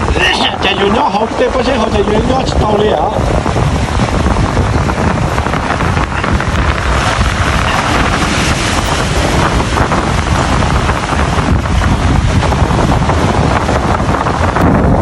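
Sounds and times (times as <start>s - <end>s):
waves washing against rocks: 0.0s - 15.0s
wind buffeting microphone: 0.0s - 15.0s.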